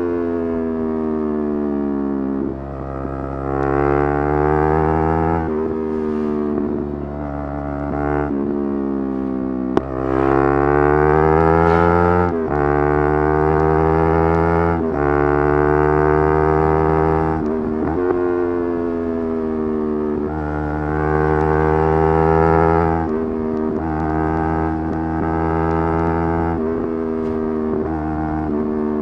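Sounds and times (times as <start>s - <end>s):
motorcycle engine revving through gears: 0.0s - 29.0s.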